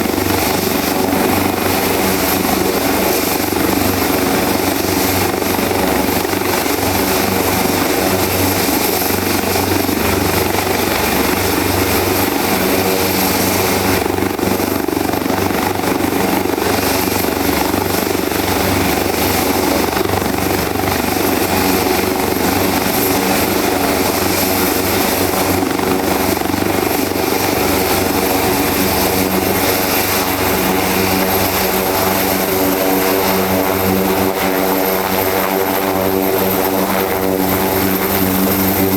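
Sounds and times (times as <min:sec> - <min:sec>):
helicopter rotor noise: 0:00.0 - 0:38.9.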